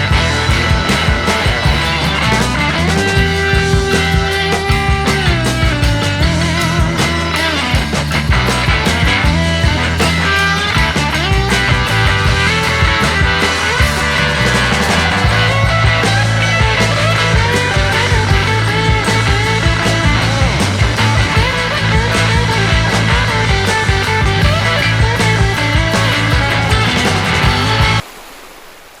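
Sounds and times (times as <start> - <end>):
rock music: 0.0 - 28.0
steady drum beat: 0.0 - 28.0.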